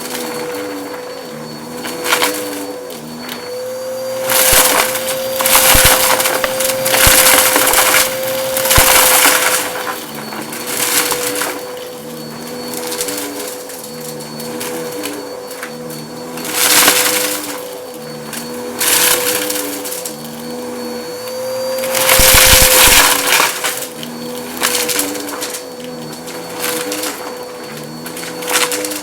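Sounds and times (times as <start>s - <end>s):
debris rattling up vacuum nozzle: 0.0s - 29.0s
vacuum cleaner motor whine: 0.0s - 29.0s.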